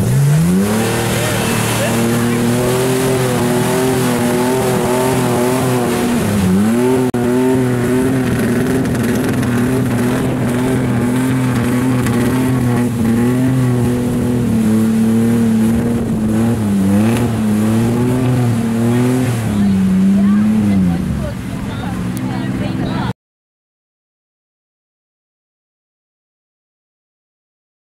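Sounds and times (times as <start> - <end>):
pickup truck engine revving: 0.0 - 22.8.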